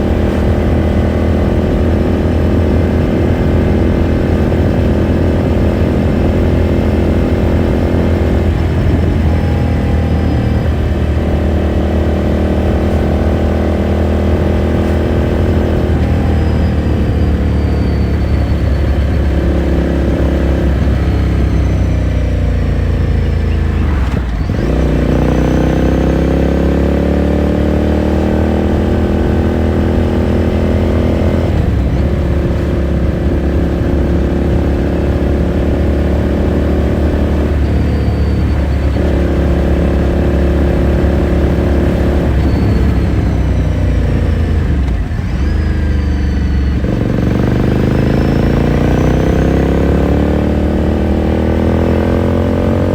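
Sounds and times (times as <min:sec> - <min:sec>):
motorcycle exhaust while riding: 0:00.0 - 0:52.9.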